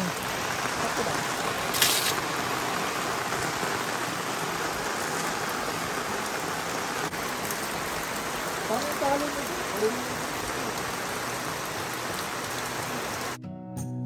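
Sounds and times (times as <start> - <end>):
rain falling: 0.0 - 13.4.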